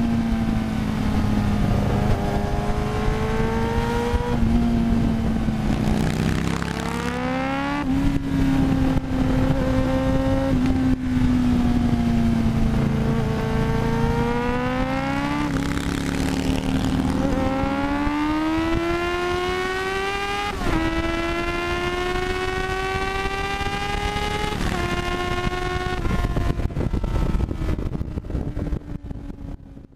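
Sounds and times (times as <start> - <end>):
motorcycle accelerating: 0.0 - 29.9.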